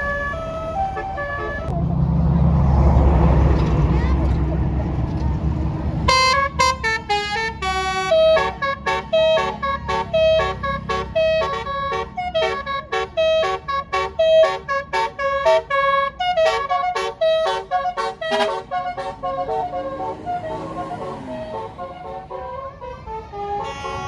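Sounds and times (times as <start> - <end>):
musical bus air horn: 0.0 - 1.8, 6.0 - 24.0.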